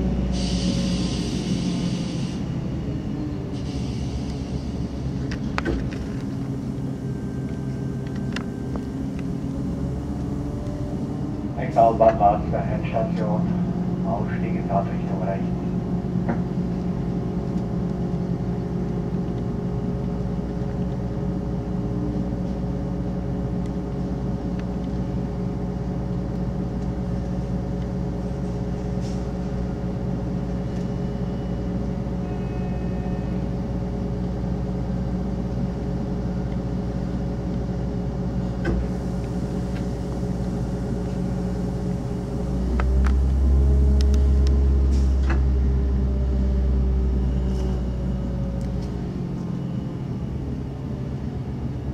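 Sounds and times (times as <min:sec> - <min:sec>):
deep train rumble: 0:00.0 - 0:51.9
train running hum: 0:00.0 - 0:51.9.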